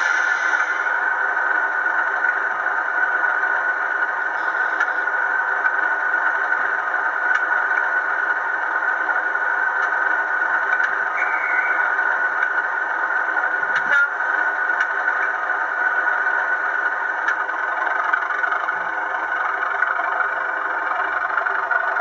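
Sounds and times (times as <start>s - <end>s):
model train whirring hum: 0.0s - 22.0s.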